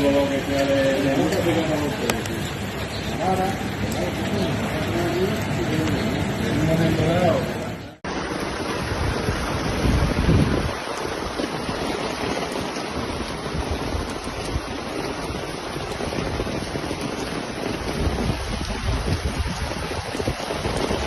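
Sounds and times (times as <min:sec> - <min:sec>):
water rushing: 0:00.0 - 0:21.0
wind buffeting microphone: 0:00.0 - 0:21.0.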